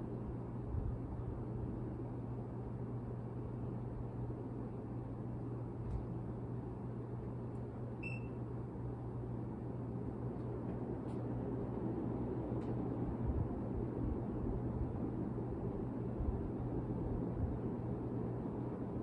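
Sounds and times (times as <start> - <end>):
ceiling fan whooshing and humming: 0.0 - 19.0.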